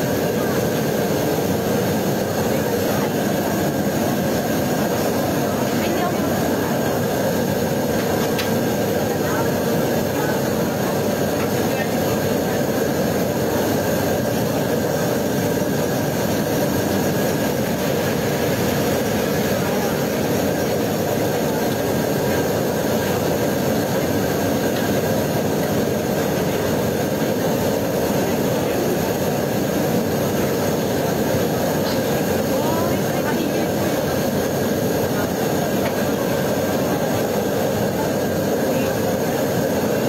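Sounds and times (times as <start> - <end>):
deep fryers rushing noise: 0.0 - 40.0.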